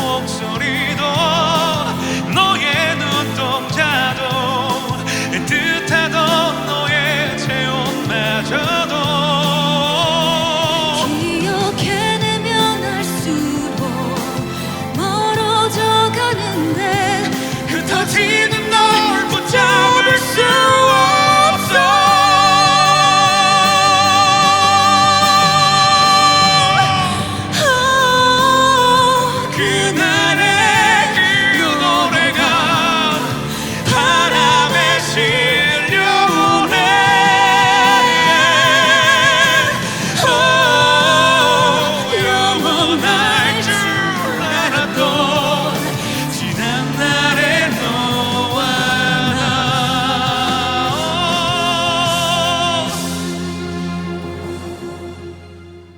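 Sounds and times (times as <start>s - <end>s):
instrumental accompaniment: 0.0s - 55.9s
pop ballad singing with vibrato: 0.0s - 55.9s.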